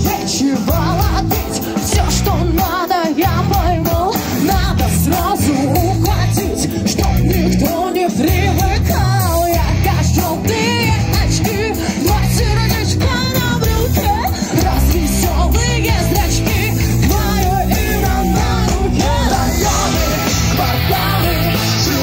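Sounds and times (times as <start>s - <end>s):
drum kit: 0.0s - 22.0s
electric guitar: 0.0s - 22.0s
person singing: 0.0s - 22.0s.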